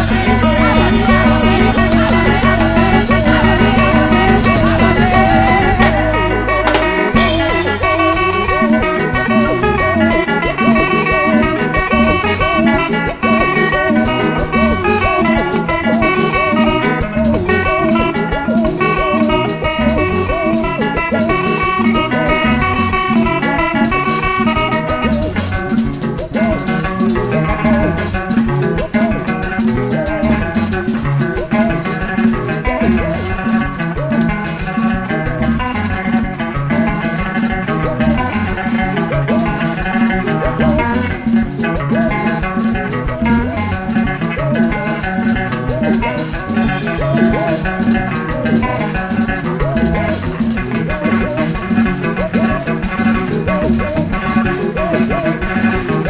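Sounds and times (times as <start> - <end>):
steady drum beat: 0.0 - 56.0
upbeat band music with guitar: 0.0 - 56.0.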